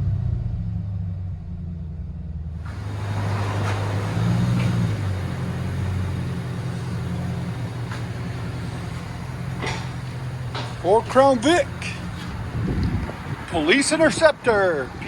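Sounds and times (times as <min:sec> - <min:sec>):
car engine idling: 0:00.0 - 0:15.0
engine revving: 0:00.0 - 0:15.0.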